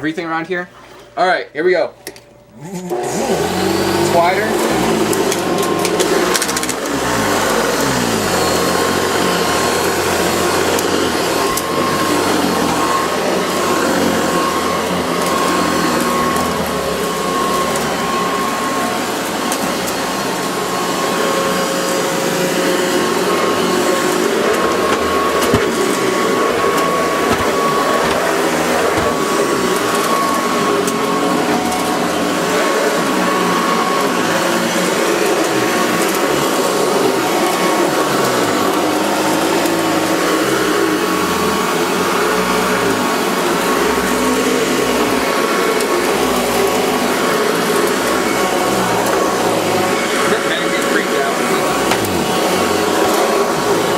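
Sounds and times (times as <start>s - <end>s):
vacuum cleaner running: 2.1s - 53.9s.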